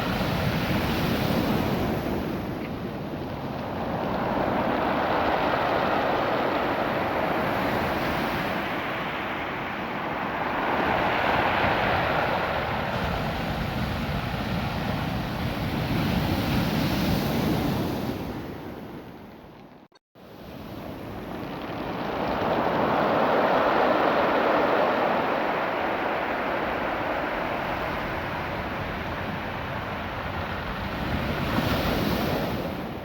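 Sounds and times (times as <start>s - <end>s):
surf washing over pebbles: 0.0s - 16.6s, 20.3s - 33.0s.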